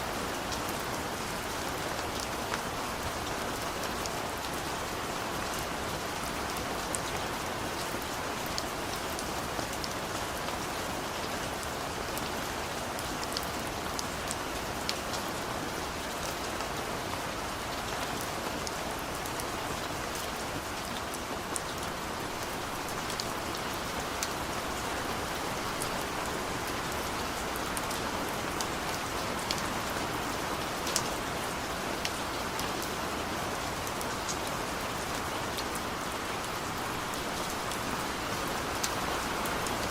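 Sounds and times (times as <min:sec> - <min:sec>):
steady rain hissing: 0:00.0 - 0:39.9
raindrops ticking on surfaces: 0:00.1 - 0:39.9.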